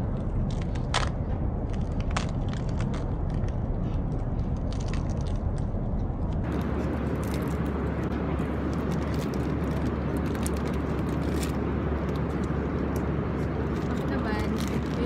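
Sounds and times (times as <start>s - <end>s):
airliner cabin engine hum: 0.0s - 15.0s
faint clicks and rustles: 0.0s - 15.0s.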